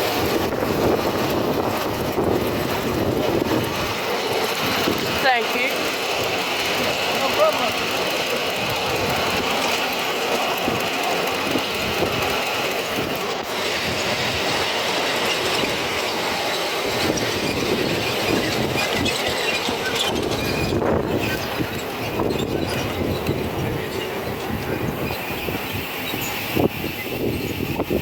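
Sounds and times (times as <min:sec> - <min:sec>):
wheel squeal: 0:00.0 - 0:28.0
wheels clicking over rails: 0:00.0 - 0:28.0.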